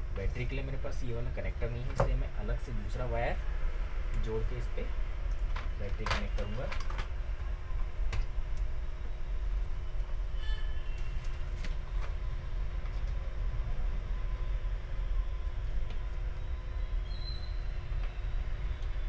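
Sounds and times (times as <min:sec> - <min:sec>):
faint steady hum: 0:00.0 - 0:19.0
workshop low rumble: 0:00.0 - 0:19.0.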